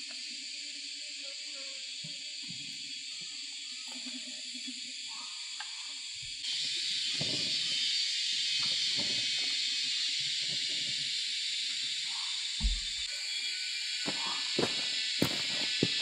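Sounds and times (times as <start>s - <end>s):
forest ambience hiss: 0.0s - 16.0s.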